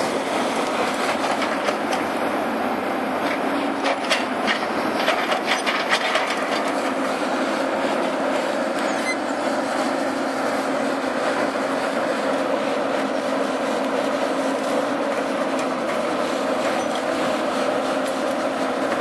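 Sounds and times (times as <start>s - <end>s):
heavy machine humming: 0.0s - 19.0s.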